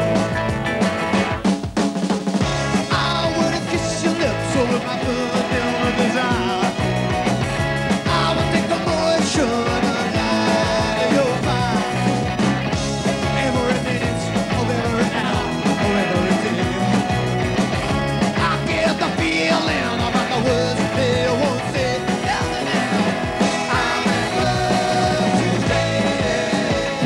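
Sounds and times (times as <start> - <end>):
drum kit: 0.0 - 27.0
electric guitar: 0.0 - 27.0.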